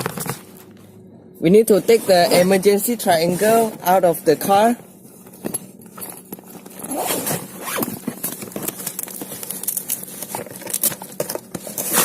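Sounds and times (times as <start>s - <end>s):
plastic case scraping and rustling: 1.7s - 12.0s.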